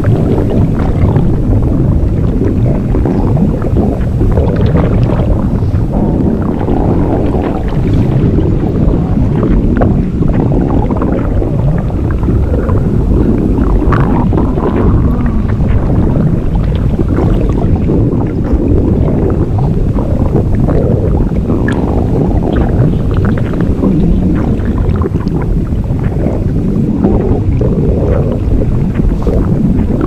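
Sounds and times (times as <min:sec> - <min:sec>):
gurgles: 0:00.0 - 0:30.0
liquid sloshing: 0:00.0 - 0:30.0
loud low rumbling: 0:00.0 - 0:30.0.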